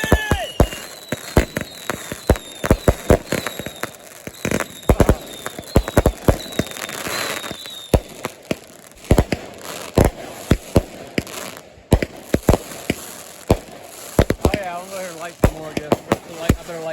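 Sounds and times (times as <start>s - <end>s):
firework hiss: 0.0s - 16.9s
fireworks banging and popping: 0.0s - 16.9s.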